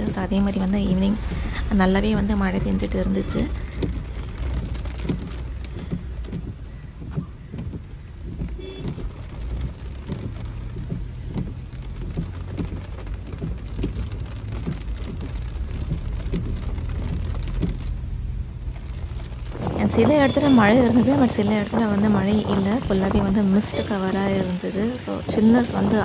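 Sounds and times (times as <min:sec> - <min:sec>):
car rumbling on wet road: 0:00.0 - 0:26.0
heavy rain on car roof: 0:00.0 - 0:26.0.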